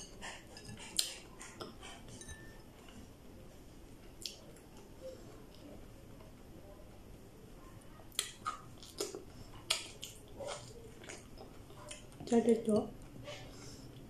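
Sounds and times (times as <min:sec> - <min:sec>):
soft eating sounds: 0:00.0 - 0:14.0.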